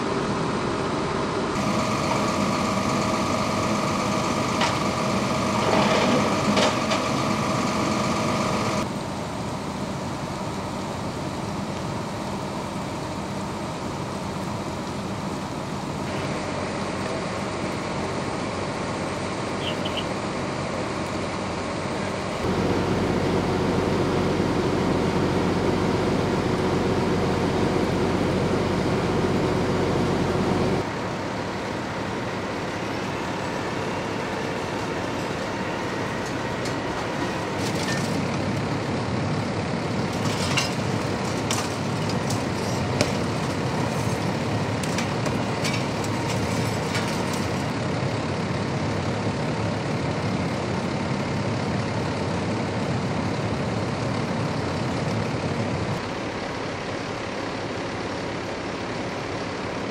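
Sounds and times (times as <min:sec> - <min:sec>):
rumble of engines: 0:00.0 - 0:59.9
vehicle engine idling: 0:00.0 - 0:59.9.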